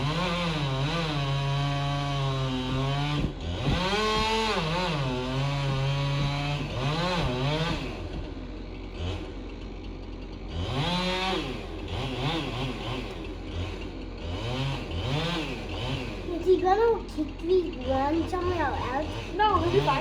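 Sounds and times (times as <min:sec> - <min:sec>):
chainsaw revving while cutting: 0:00.0 - 0:20.0.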